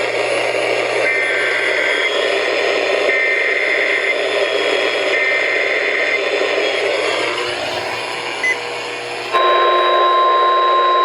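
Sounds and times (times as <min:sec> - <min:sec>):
radio hiss and static: 0:00.0 - 0:09.6.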